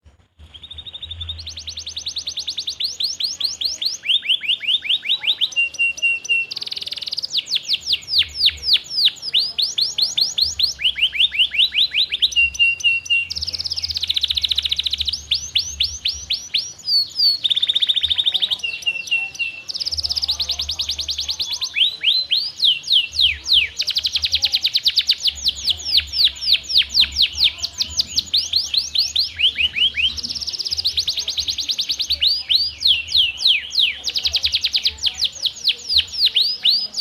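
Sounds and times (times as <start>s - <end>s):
canary singing trills: 0.2s - 37.0s.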